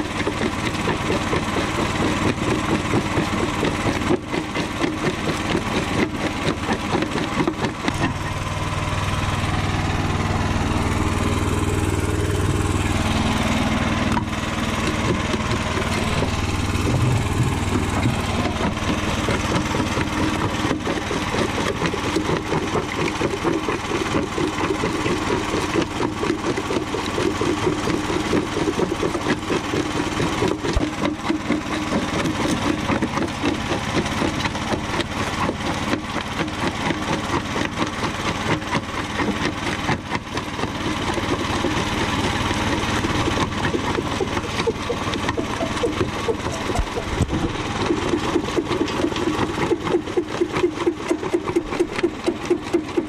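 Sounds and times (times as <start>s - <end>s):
jaw crusher grinding concrete: 0.0s - 53.0s
small engine running: 0.0s - 53.0s.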